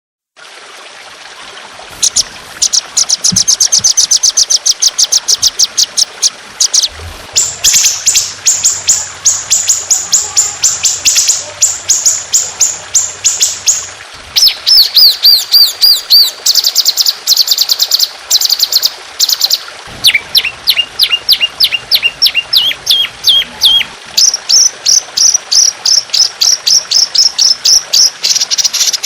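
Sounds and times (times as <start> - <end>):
faint water trickling: 0.4 - 29.0
songbird singing sweeping notes: 2.0 - 29.0.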